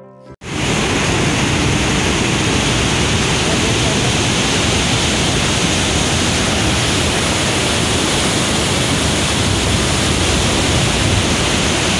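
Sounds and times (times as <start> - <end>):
rushing white water: 0.4 - 11.9.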